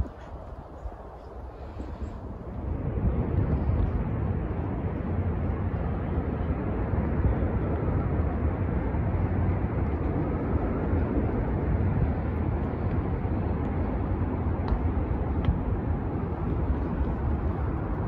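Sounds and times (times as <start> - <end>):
low city rumble: 0.0 - 18.0.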